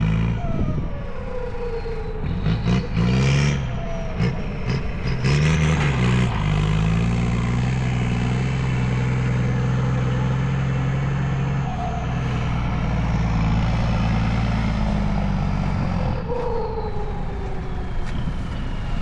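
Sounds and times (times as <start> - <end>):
heavy vehicle engine revving: 0.0 - 19.0.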